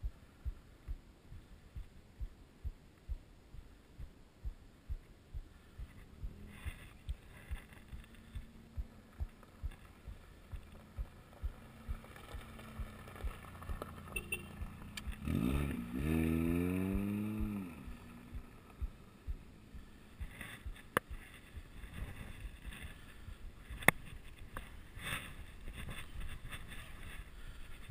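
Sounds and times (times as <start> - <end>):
heartbeat thumping: 0.0 - 26.5.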